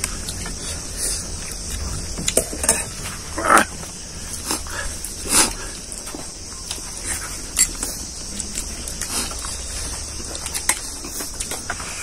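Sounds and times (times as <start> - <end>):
hands eating rice on steel plates: 0.0 - 12.0.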